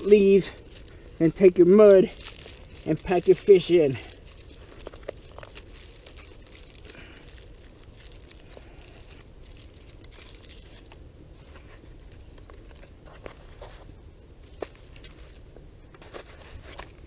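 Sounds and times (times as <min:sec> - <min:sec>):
crinkling and rustling: 0:00.0 - 0:17.0.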